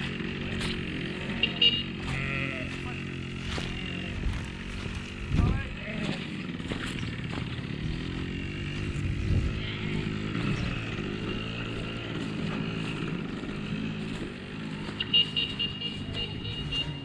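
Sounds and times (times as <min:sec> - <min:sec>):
two-stroke motorbike engine revving: 0:00.0 - 0:17.0.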